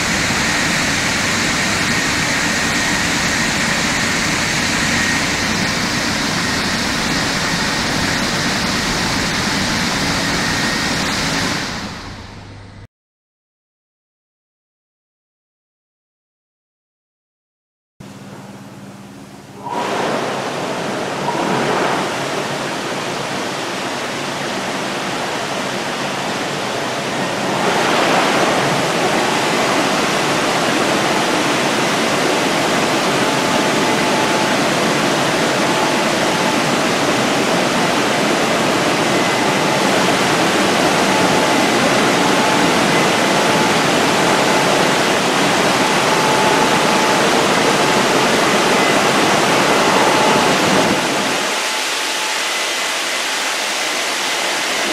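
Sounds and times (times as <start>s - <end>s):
dryer blowers rushing air: 0.0s - 12.9s, 18.1s - 54.9s.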